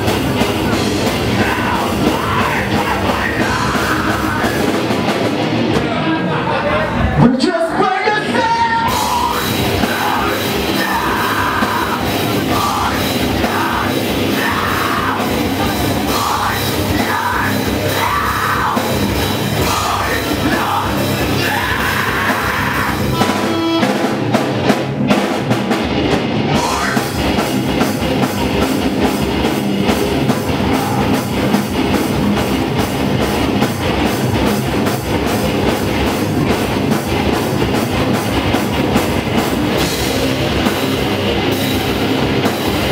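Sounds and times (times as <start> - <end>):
live heavy rock band: 0.0 - 42.9
rock vocals: 0.0 - 42.9.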